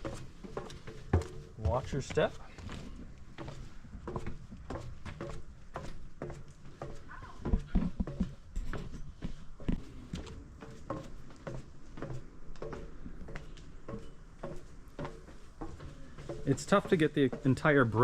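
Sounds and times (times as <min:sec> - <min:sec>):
footsteps on metal stairs: 0:00.0 - 0:18.0.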